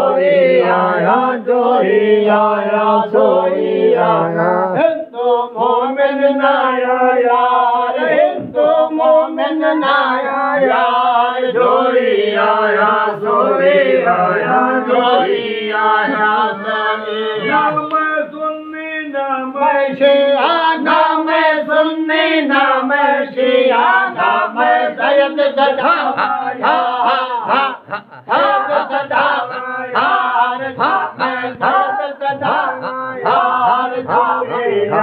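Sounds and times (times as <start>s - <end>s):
man singing a devotional chant: 0.0s - 35.0s.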